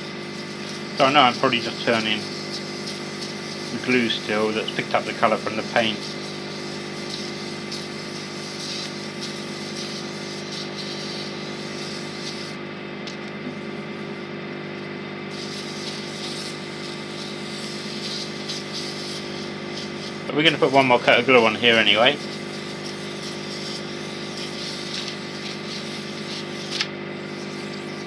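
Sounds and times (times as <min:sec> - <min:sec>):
sandpaper sanding hiss: 0:00.0 - 0:12.6, 0:15.3 - 0:28.0
lathe motor humming: 0:00.0 - 0:28.0.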